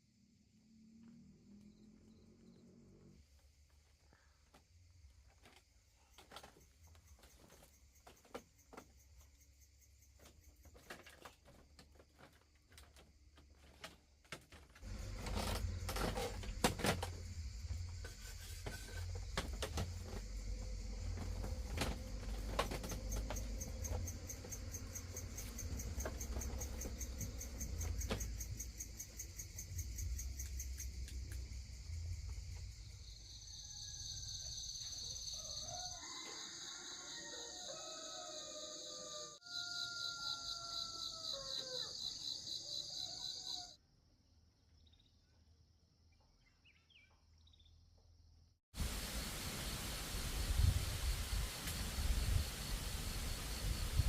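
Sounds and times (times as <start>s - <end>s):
crickets trilling: 0.1s - 43.8s, 48.8s - 54.0s.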